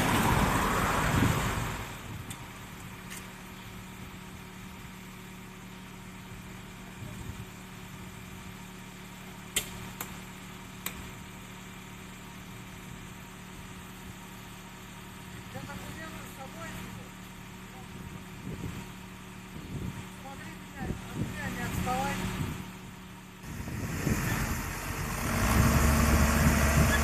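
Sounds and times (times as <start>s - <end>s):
engine idling: 1.2s - 27.0s.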